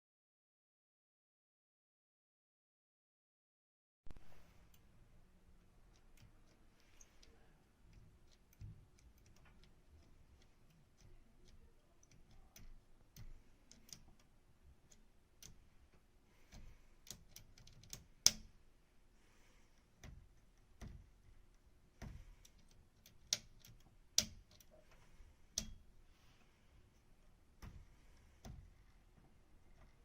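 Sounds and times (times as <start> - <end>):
faint clicks and light taps: 4.1 - 30.0.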